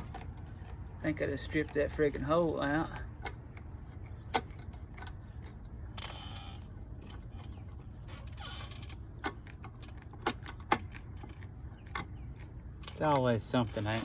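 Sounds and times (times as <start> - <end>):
light metallic rattles: 0.0 - 14.0
steady low hum: 0.0 - 14.0.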